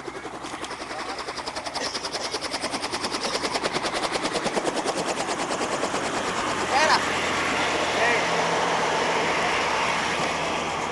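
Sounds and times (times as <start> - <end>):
helicopter rotor beating: 0.0 - 10.9.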